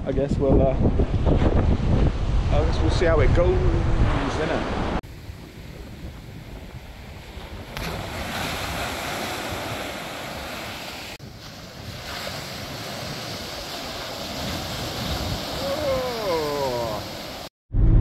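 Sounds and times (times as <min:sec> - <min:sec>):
wind buffeting microphone: 0:00.0 - 0:17.3
ocean surf washing onto beach: 0:02.2 - 0:17.5.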